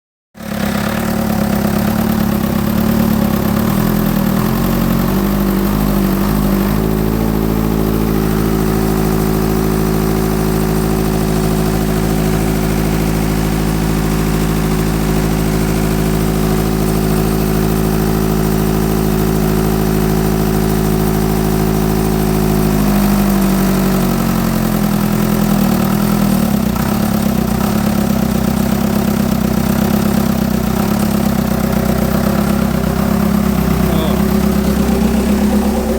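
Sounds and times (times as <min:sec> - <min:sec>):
diesel tractor engine running: 0:00.4 - 0:35.9.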